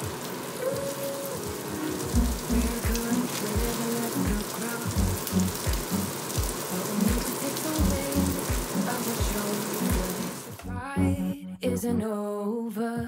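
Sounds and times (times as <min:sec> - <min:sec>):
food sizzling in oil: 0:00.0 - 0:10.6
background music with beat: 0:00.0 - 0:10.8.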